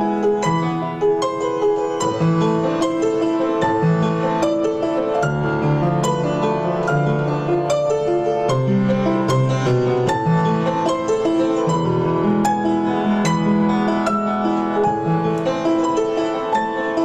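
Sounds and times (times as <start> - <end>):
solo piano melody: 0.0 - 17.0.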